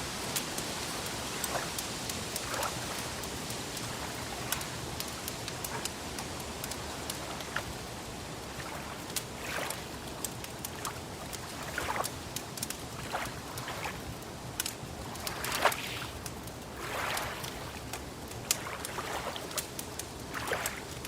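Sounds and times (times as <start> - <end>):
wood fire crackling and popping: 0.0 - 16.8, 17.4 - 21.0
water lapping: 0.0 - 21.0.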